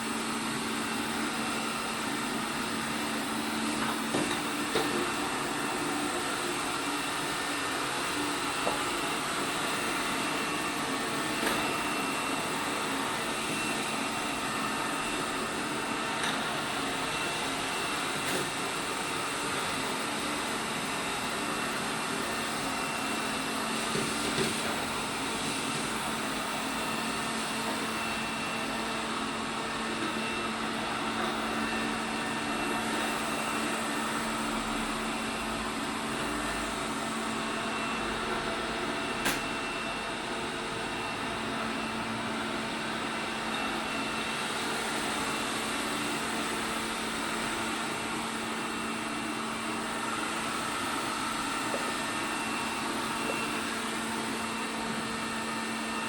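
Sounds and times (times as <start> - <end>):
robot vacuum humming and whining: 0.0 - 56.0.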